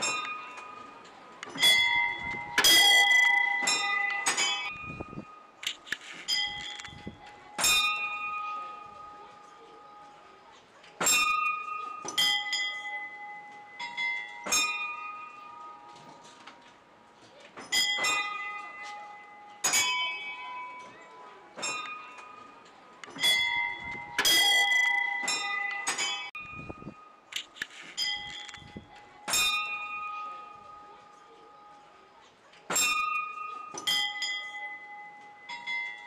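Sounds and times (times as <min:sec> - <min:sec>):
small bells ringing: 0:00.0 - 0:05.5, 0:06.2 - 0:10.4, 0:11.1 - 0:16.3, 0:17.6 - 0:27.2, 0:28.0 - 0:32.0, 0:32.8 - 0:36.0.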